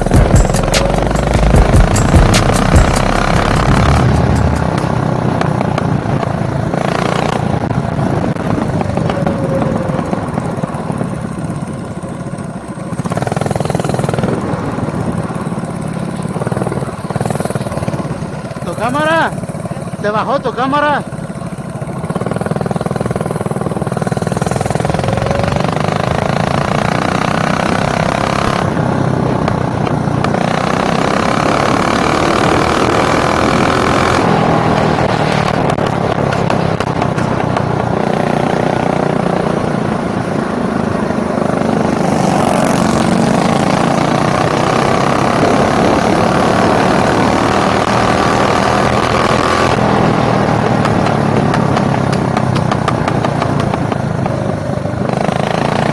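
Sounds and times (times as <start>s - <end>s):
mini bike engine running: 0.0s - 55.9s.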